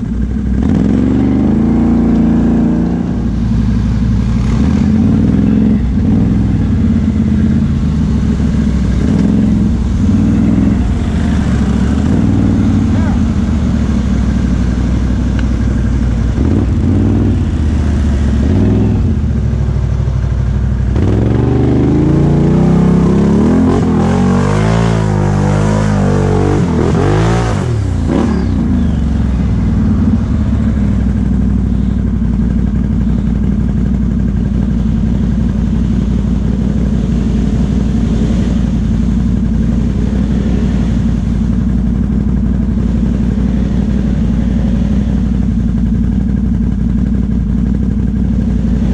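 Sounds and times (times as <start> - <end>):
atv engine revving: 0.0 - 48.9.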